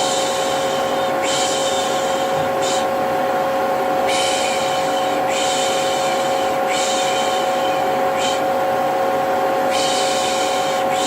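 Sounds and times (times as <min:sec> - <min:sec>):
vacuum cleaner motor humming: 0:00.0 - 0:11.0.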